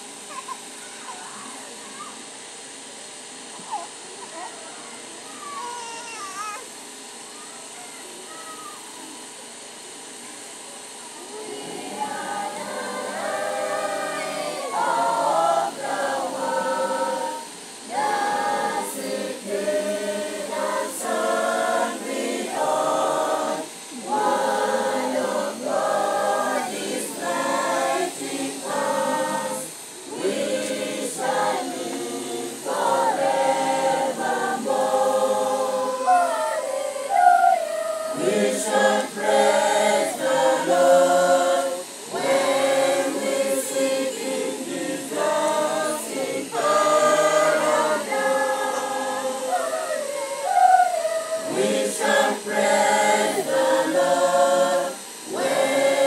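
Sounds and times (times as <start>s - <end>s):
choir singing unaccompanied: 9.2s - 56.0s.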